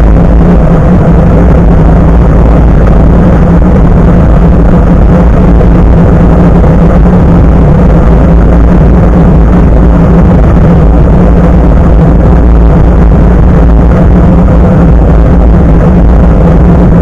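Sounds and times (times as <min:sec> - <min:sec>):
bicycle road noise: 0:00.0 - 0:17.0
wind buffeting: 0:00.0 - 0:17.0.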